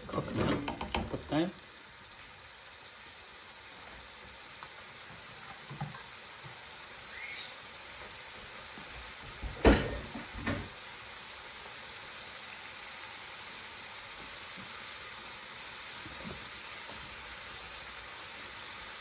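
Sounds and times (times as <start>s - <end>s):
sauce simmering and sizzling: 0.0s - 19.0s.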